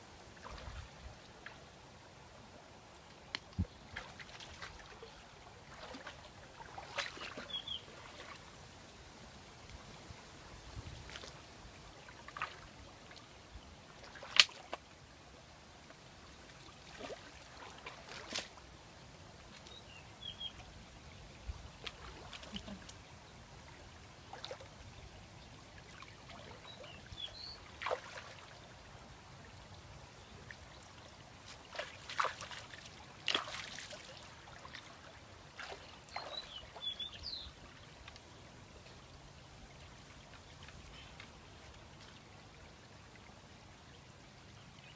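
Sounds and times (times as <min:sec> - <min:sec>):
water splashing and sloshing: 0:00.3 - 0:01.7, 0:03.1 - 0:08.8, 0:10.8 - 0:15.0, 0:15.7 - 0:19.9, 0:21.7 - 0:43.3.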